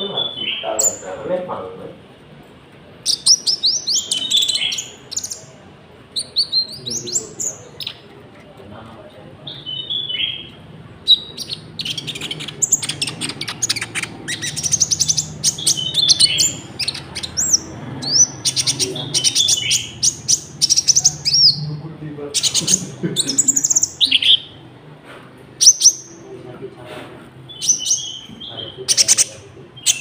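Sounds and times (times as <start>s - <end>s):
bird singing chirps and trills: 0.0s - 1.5s, 3.0s - 8.1s, 9.4s - 24.7s, 25.6s - 26.4s, 27.4s - 30.0s.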